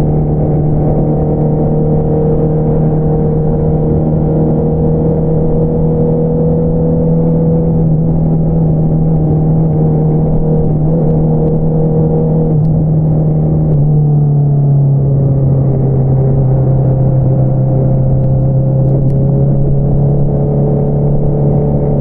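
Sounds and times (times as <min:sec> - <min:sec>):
motorcycle engine at steady revs: 0:00.0 - 0:22.0.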